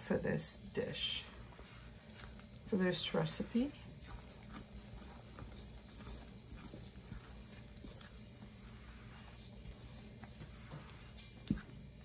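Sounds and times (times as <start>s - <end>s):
spoon stirring wet flour mixture: 0.0s - 12.0s.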